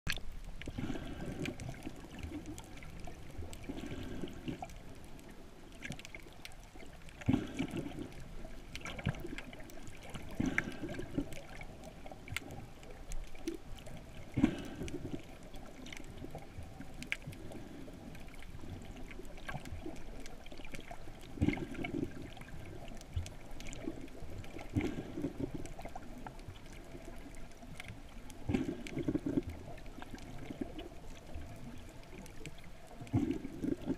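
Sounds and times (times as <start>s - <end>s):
faint clicks: 0.1s - 33.1s
muffled underwater water sloshing: 0.1s - 33.9s.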